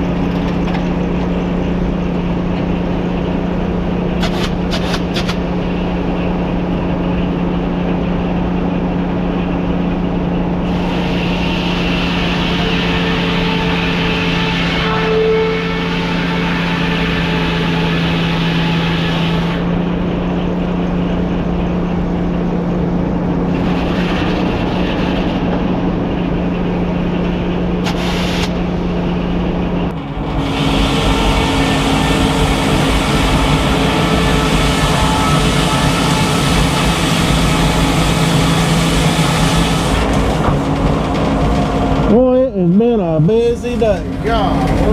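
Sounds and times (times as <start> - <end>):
sawmill mechanical drone: 0.0 - 44.9.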